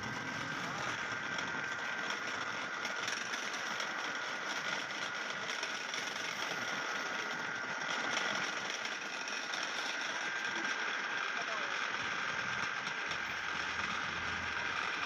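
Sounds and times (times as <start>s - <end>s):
wood-turning lathe running: 0.0s - 15.0s.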